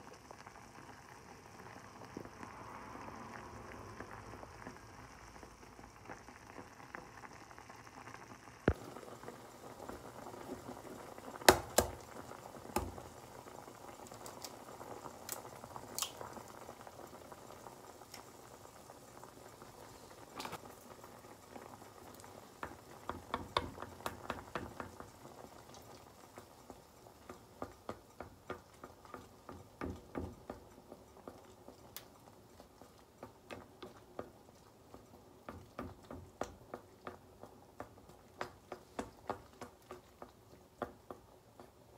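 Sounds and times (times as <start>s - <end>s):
noodles boiling: 0.0s - 41.9s.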